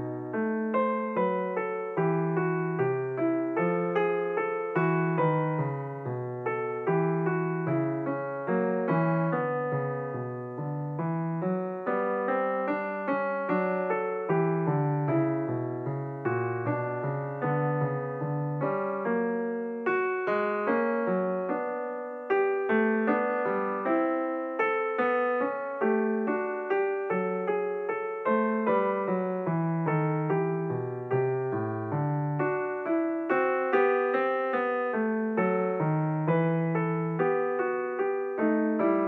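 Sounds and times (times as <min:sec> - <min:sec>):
gentle piano melody: 0:00.0 - 0:39.0.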